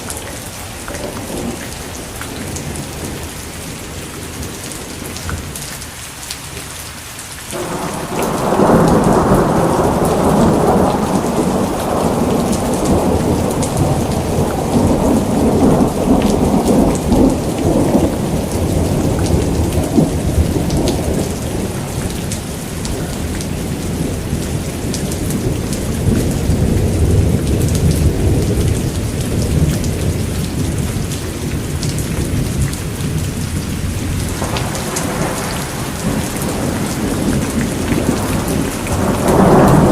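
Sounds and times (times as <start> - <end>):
heavy rain falling: 0.0 - 39.9
thunder rolling: 7.6 - 39.9.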